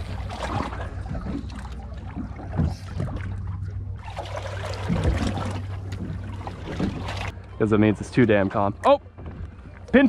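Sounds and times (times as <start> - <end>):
steady low rumble: 0.0 - 10.0
water lapping against boat hull: 0.0 - 10.0.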